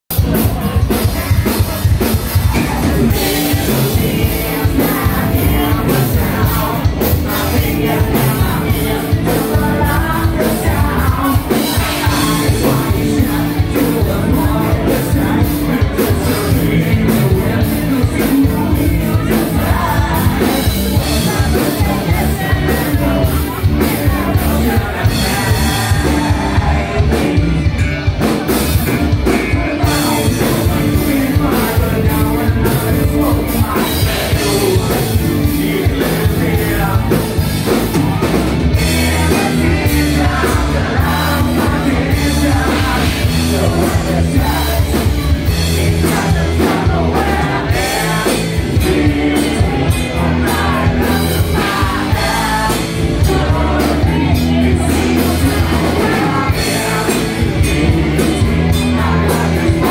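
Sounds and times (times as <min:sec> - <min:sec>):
drum kit: 0:00.0 - 0:59.9
electric guitar: 0:00.1 - 0:59.9
person singing: 0:00.1 - 0:59.9.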